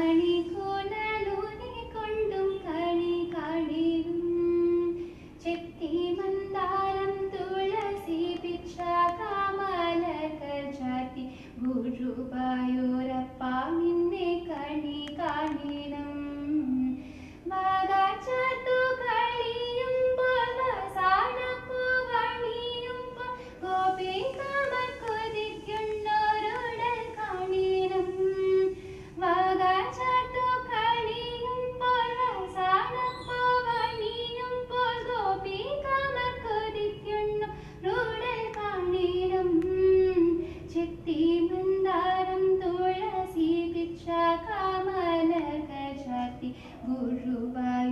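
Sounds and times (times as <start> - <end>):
faint steady drone: 0.0 - 47.9
woman singing devotional song: 0.0 - 47.9.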